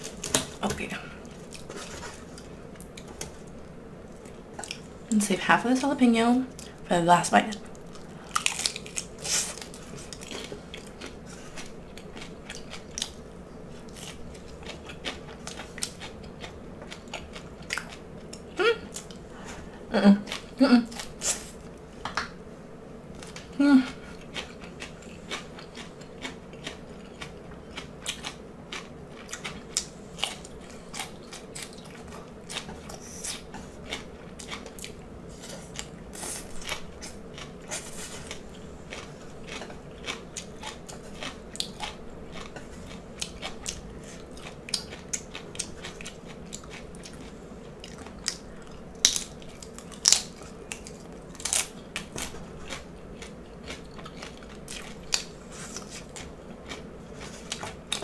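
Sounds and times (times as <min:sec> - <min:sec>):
chewing and crunching fried food: 0:06.5 - 0:21.8, 0:23.1 - 0:58.0.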